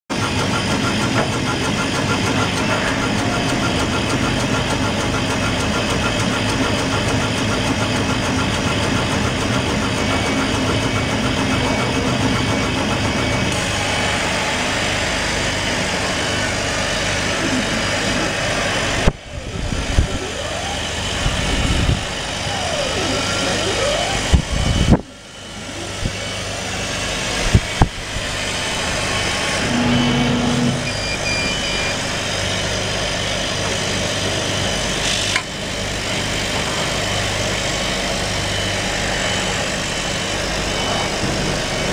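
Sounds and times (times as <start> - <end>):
machine fans rushing: 0.1 - 41.9
motor whining: 0.2 - 41.9.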